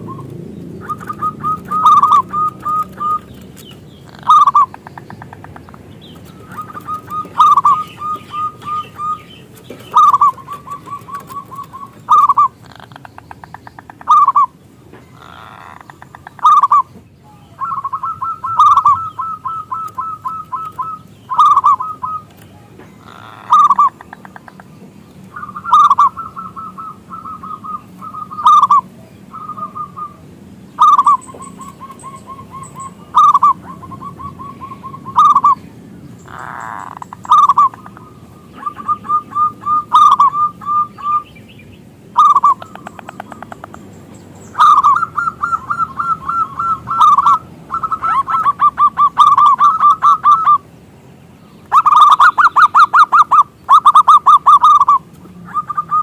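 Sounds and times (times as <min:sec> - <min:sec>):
dove singing and cooing: 0:00.0 - 0:56.0.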